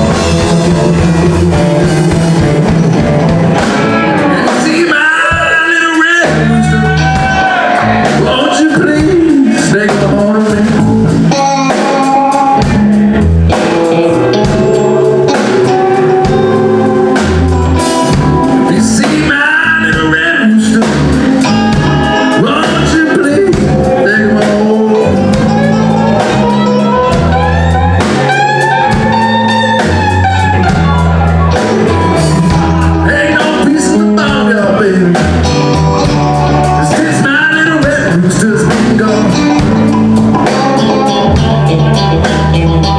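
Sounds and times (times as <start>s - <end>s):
man singing: 0.0s - 3.2s, 3.8s - 17.4s, 18.0s - 42.9s
drum kit: 0.0s - 42.9s
electric bass: 0.0s - 42.9s
electric guitar: 0.0s - 42.9s.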